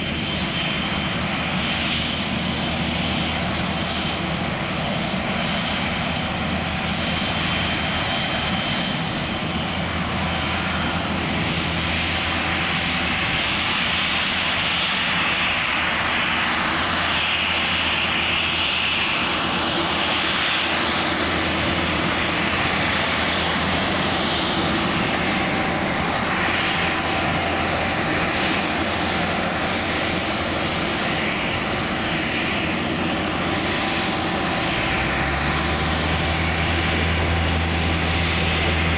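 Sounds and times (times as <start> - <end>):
airplane engine running: 0.0 - 38.9.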